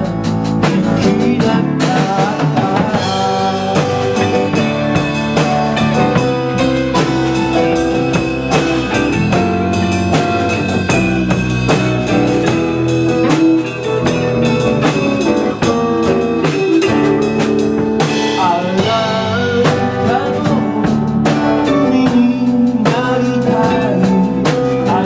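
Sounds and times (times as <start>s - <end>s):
drum kit beat: 0.0s - 25.0s
live rock band playing: 0.0s - 25.0s.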